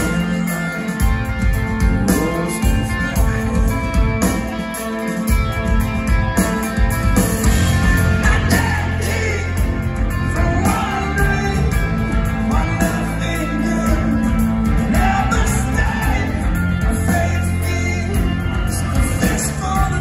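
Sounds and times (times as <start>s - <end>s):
man singing: 0.0s - 4.7s, 8.0s - 20.0s
live rock band: 0.0s - 20.0s.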